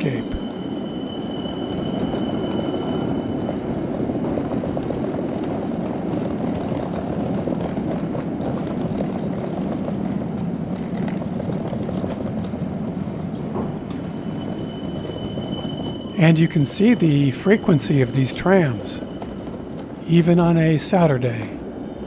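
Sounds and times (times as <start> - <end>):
suitcase wheels rattling on cobblestones: 0.1 - 22.0.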